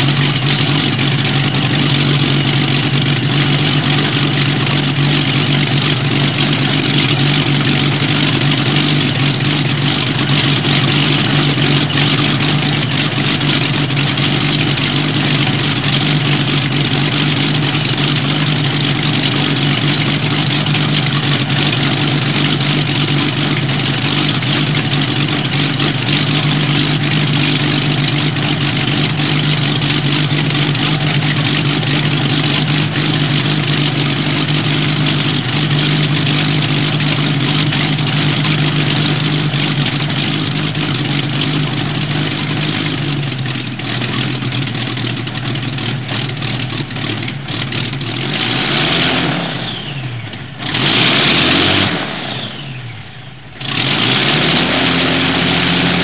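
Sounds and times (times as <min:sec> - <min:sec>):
aircraft piston engines running: 0:00.0 - 0:56.0.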